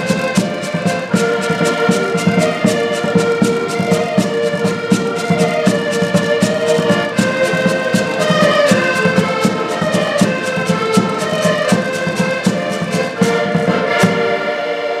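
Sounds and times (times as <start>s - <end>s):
button accordions playing folk tune: 0.0s - 15.0s.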